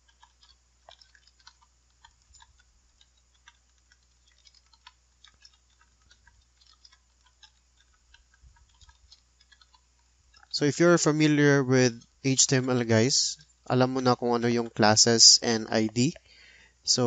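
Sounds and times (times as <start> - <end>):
faint keyboard clicking: 0.0 - 17.0.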